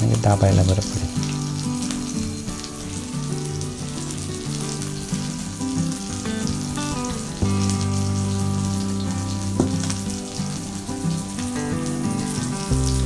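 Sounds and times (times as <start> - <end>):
background music of held notes: 0.0 - 13.0
fish sizzling in oil: 0.0 - 13.0.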